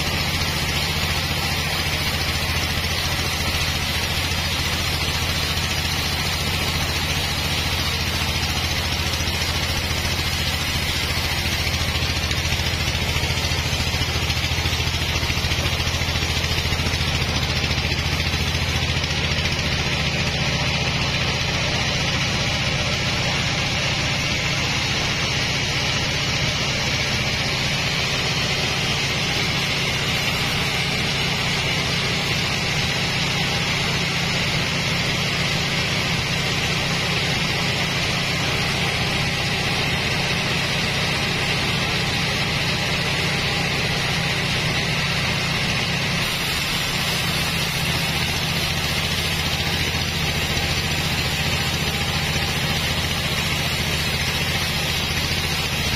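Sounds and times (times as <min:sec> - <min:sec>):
stationary engine droning: 0:00.0 - 0:55.9.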